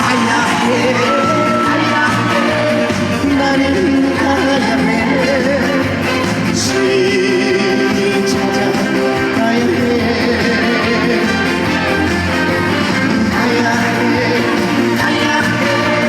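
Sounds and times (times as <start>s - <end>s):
live band playing trot music: 0.0s - 16.0s.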